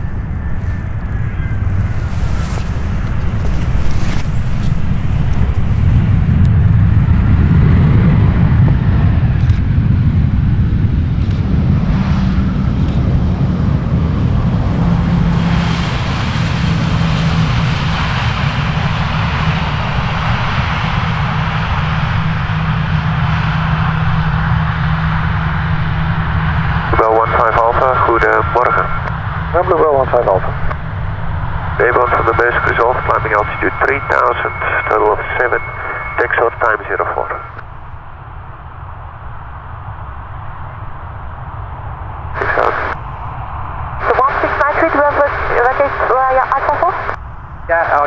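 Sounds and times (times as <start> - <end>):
airliner engines running: 0.0 - 48.0.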